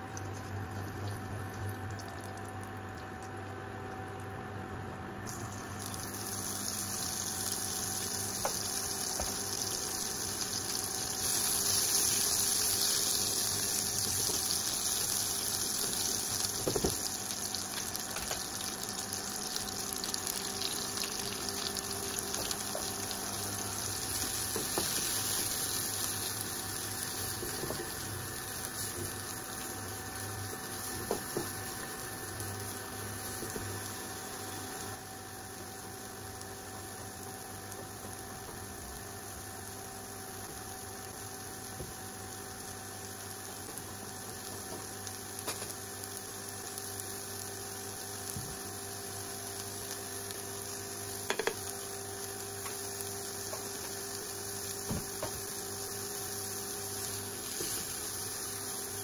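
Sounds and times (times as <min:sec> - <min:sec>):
food sizzling in frying pan: 0:05.3 - 0:59.0.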